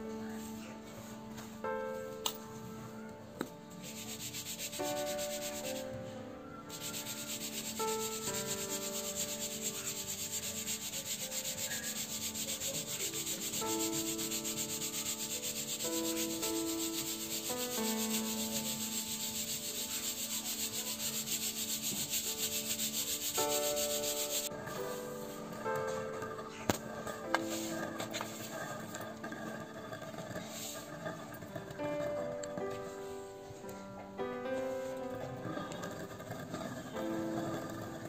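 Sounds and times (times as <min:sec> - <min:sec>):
grains rasping in metal sieve: 0:03.8 - 0:33.0, 0:35.2 - 0:38.0.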